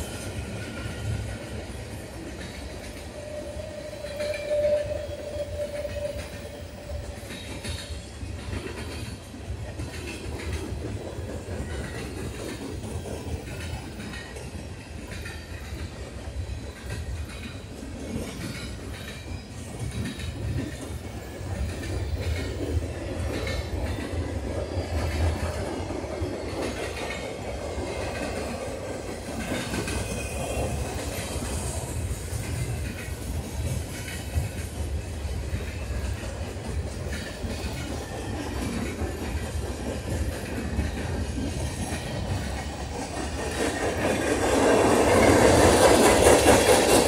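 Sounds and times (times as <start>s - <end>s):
train wheels rumbling: 0.0s - 47.0s
wheels clacking over rail joints: 4.0s - 47.0s.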